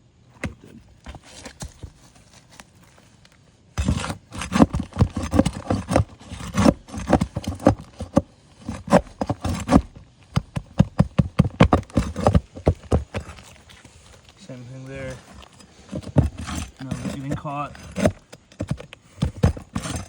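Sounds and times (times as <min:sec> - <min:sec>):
flat bar scraping on shingles: 0:03.8 - 0:20.0.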